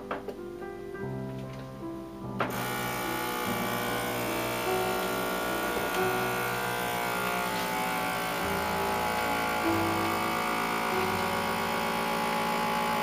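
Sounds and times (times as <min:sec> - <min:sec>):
background music: 0:00.0 - 0:13.0
small pump motor running: 0:02.5 - 0:13.0.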